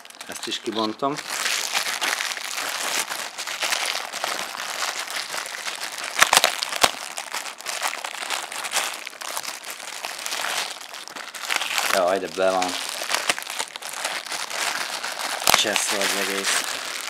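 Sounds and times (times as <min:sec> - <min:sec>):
plastic film crinkling: 0:00.0 - 0:17.0
plastic film snapping: 0:01.2 - 0:17.0.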